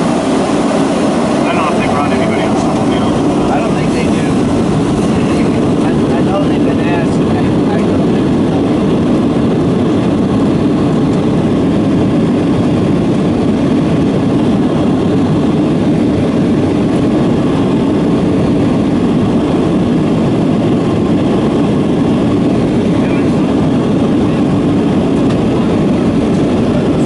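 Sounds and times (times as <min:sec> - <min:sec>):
airliner cabin engine drone: 0:00.0 - 0:27.0.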